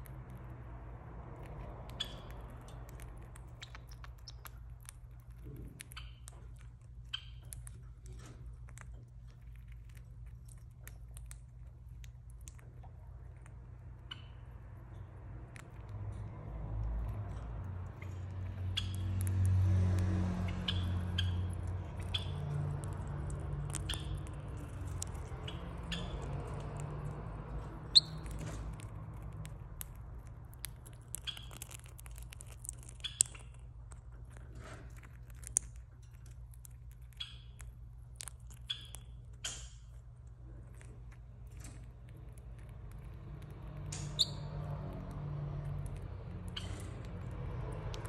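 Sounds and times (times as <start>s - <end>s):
bird beak clicking and crunching: 0.0s - 48.0s.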